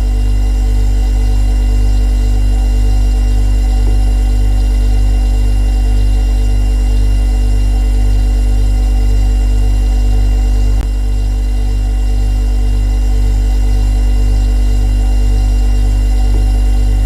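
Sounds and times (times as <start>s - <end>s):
refrigerator compressor humming: 0.0s - 17.0s.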